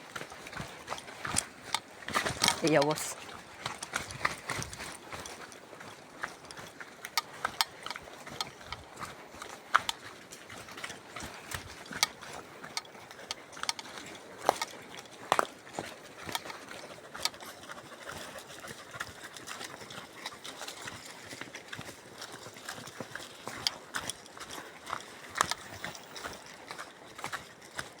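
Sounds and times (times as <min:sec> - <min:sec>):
footsteps on forest trail: 0:00.0 - 0:28.0.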